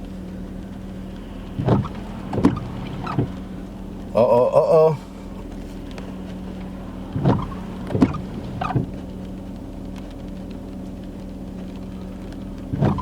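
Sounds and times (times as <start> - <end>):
car interior hum: 0.0 - 13.0
rain falling: 0.0 - 13.0.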